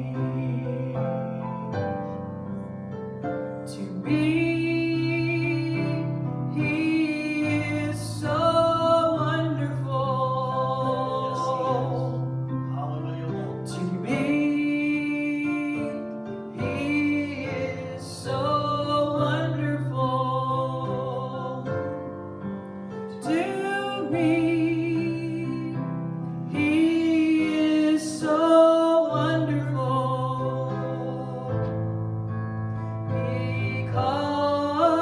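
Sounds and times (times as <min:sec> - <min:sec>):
person singing worship song: 0:00.0 - 0:02.7, 0:03.7 - 0:22.2, 0:22.8 - 0:32.1, 0:32.7 - 0:35.0
keyboard accompaniment: 0:00.0 - 0:35.0.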